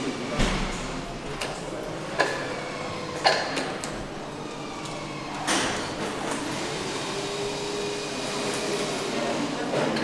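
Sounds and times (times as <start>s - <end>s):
steady factory noise: 0.0s - 10.0s.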